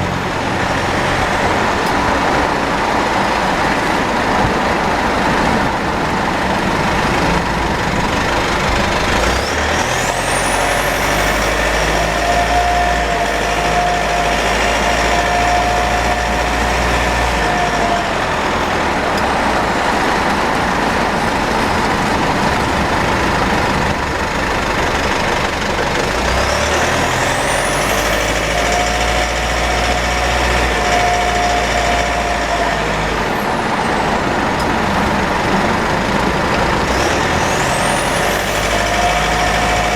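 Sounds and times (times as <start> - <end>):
drivetrain whine: 0.0 - 39.9
pickup truck driving: 0.0 - 39.9
road noise: 0.0 - 39.9.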